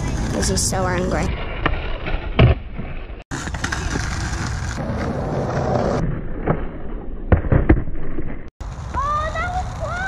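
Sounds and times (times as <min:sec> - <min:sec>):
skateboard wheels rolling on tarmac: 0:00.0 - 0:07.0, 0:08.0 - 0:10.0.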